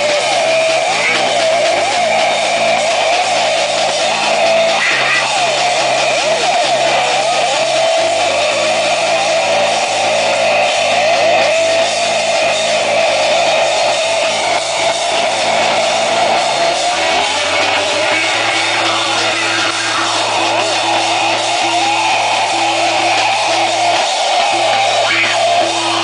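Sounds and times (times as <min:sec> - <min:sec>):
punk rock band playing live: 0:00.0 - 0:26.0.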